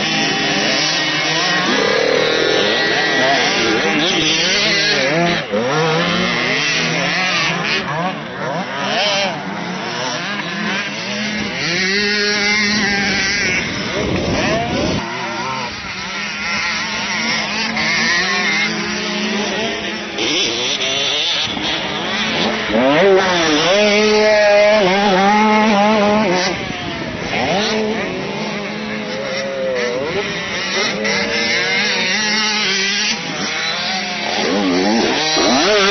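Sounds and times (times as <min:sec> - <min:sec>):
motocross bike engines revving: 0:00.0 - 0:35.9.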